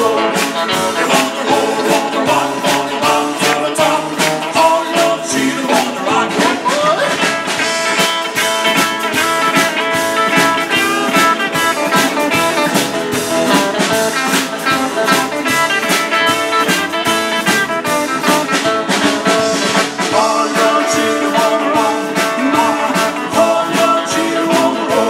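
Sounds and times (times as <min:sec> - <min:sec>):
live band playing instrumental: 0:00.0 - 0:25.0.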